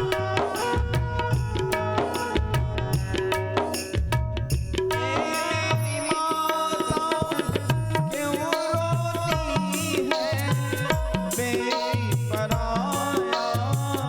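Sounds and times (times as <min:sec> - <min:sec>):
tabla drum beat: 0:00.0 - 0:14.0.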